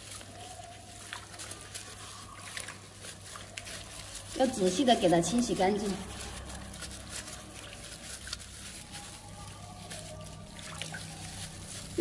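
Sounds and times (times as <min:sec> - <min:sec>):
water splashing in steel basin: 0:00.0 - 0:09.2, 0:09.8 - 0:12.0
sponge scrubbing meat: 0:00.0 - 0:12.0.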